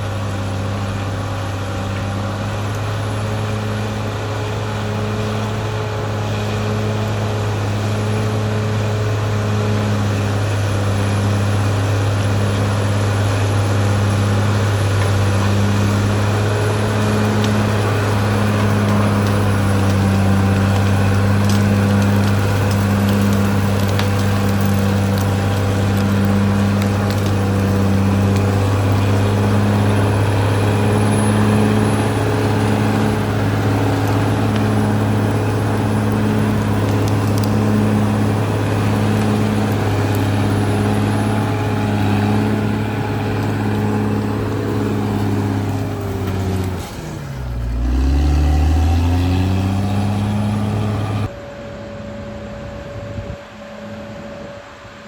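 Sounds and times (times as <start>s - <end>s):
bulldozer diesel engine running: 0.0s - 51.6s.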